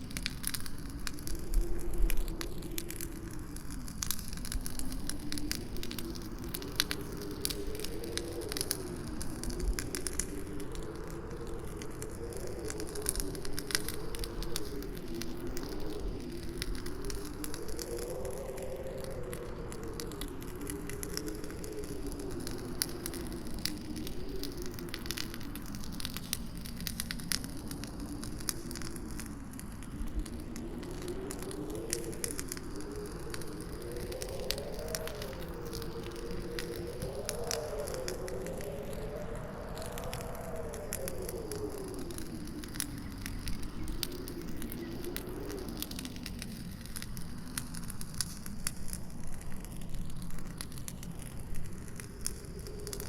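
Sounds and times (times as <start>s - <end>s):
campfire crackling and popping: 0.0s - 53.0s
howling wind: 0.0s - 53.0s.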